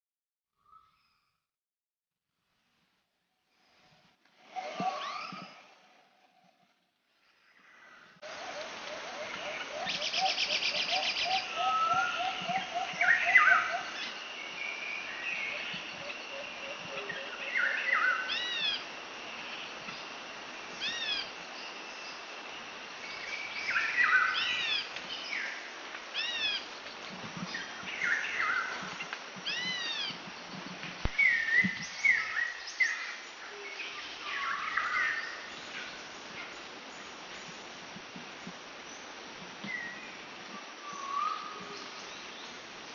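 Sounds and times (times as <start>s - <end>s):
background hiss: 2.4s - 42.9s
wild birds calling: 4.4s - 6.6s, 7.3s - 37.8s, 38.4s - 42.9s.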